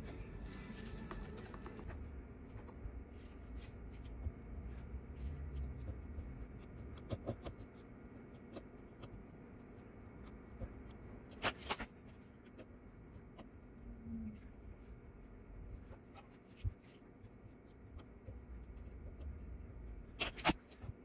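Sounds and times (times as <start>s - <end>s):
low steady rumble: 0.0s - 11.4s, 12.0s - 21.0s.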